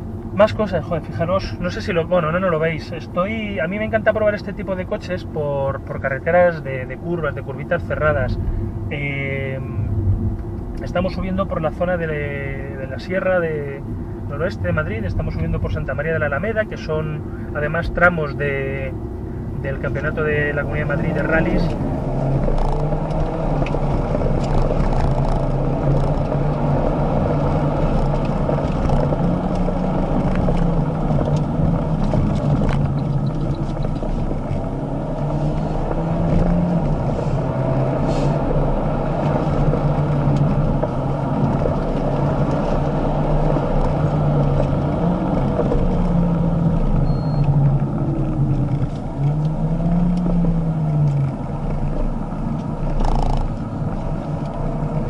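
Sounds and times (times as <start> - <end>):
car engine pulling and easing off: 0.0 - 55.0
road noise: 0.0 - 55.0.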